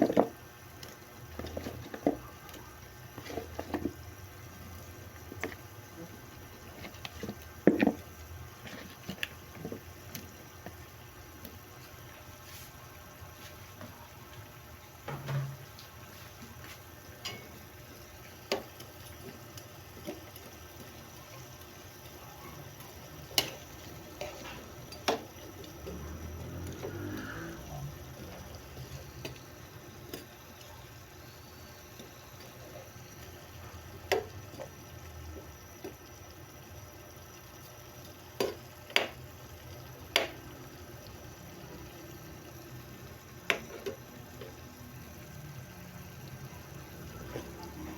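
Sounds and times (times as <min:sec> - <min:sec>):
steady watery noise: 0:00.0 - 0:47.9.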